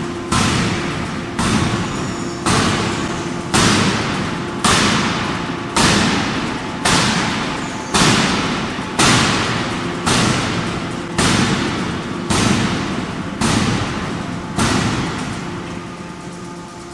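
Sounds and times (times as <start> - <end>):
forging hammer striking hot metal: 0.0 - 16.2.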